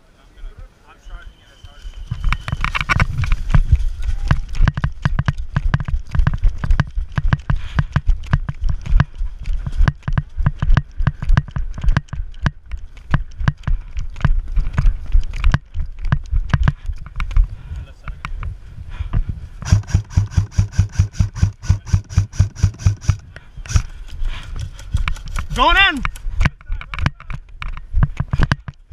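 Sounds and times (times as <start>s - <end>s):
running footsteps thudding: 2.0s - 26.6s.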